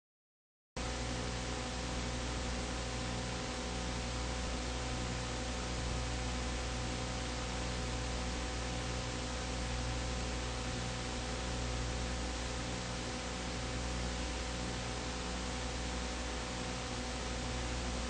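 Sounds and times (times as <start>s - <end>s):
low electrical hum: 0.8s - 18.0s.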